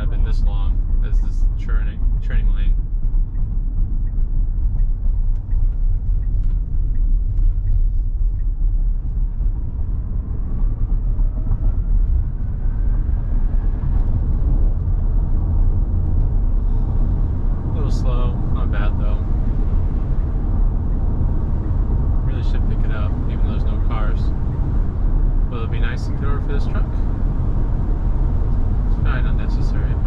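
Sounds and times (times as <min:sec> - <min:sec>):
road and wind noise in car: 0:00.0 - 0:30.0.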